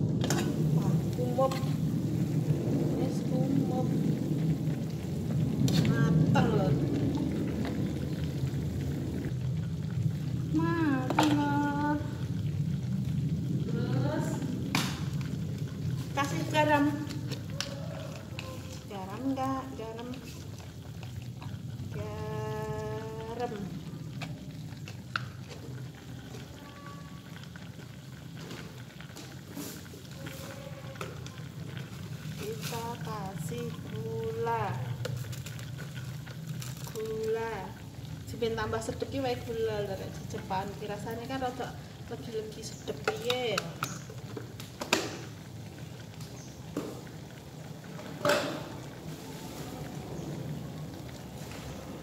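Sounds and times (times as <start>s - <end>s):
soup simmering in a wok: 0.0s - 52.0s
small bubbling pops: 3.5s - 52.0s.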